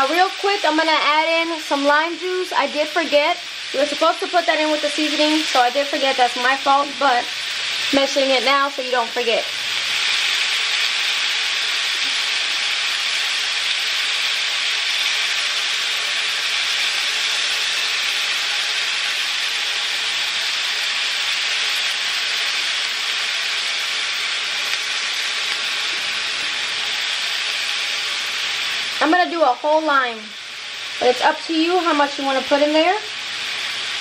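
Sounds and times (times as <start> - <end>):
chicken sizzling in a skillet: 0.0 - 34.0.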